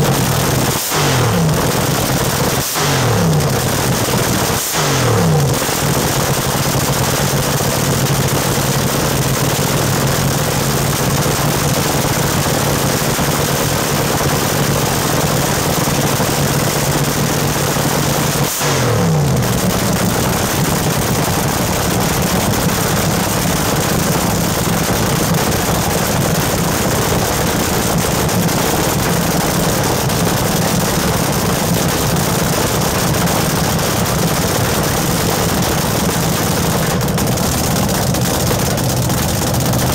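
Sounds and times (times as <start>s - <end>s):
dragster engine running: 0.0s - 39.9s.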